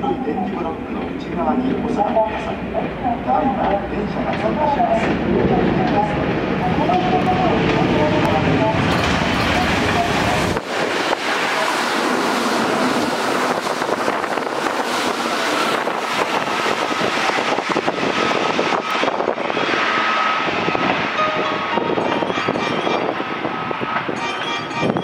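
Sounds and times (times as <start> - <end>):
train wheels rushing on rail: 0.0 - 25.0.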